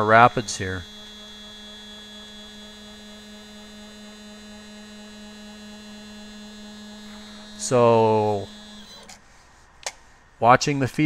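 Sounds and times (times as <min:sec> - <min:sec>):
stepper motor humming: 0:00.0 - 0:09.2.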